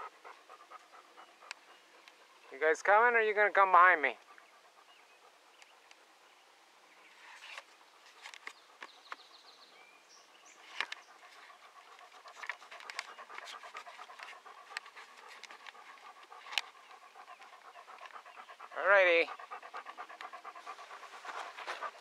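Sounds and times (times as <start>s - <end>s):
faint panting breaths: 0.0s - 22.0s.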